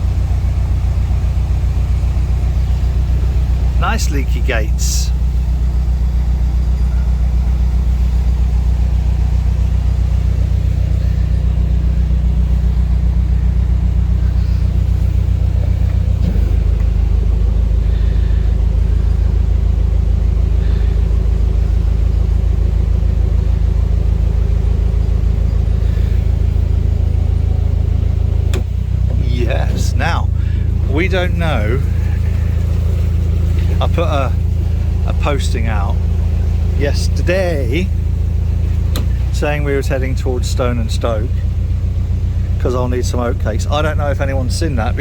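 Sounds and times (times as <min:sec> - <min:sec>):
diesel boat engine running: 0:00.0 - 0:45.0.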